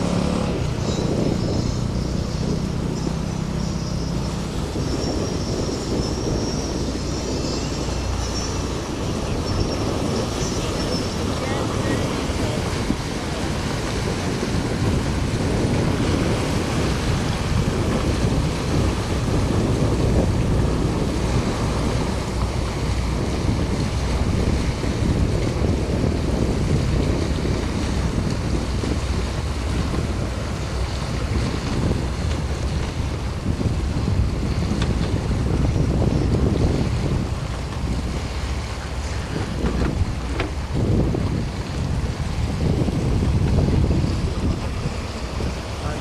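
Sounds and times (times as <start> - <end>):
boat engine running: 0.0 - 46.0
choppy sea water: 0.0 - 46.0
wind buffeting microphone: 0.0 - 46.0.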